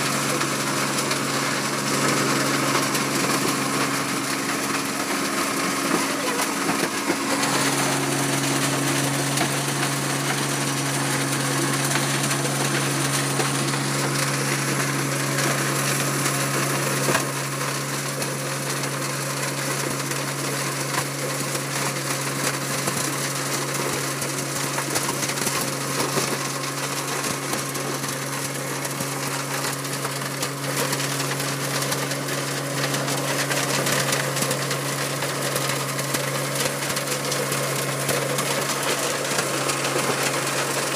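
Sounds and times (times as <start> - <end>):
cutter grinding road surface: 0.0 - 40.9.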